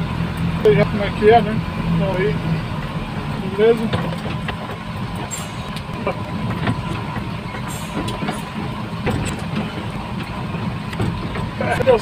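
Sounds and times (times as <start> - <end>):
truck engine running: 0.0 - 12.0
cab knocks and rattles: 2.3 - 12.0.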